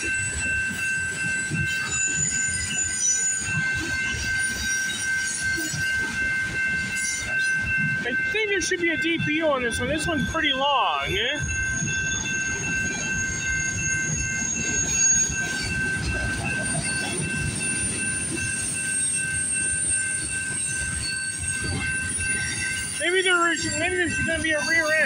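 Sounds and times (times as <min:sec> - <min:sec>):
steel wheels rumbling on rails: 0:00.0 - 0:25.0.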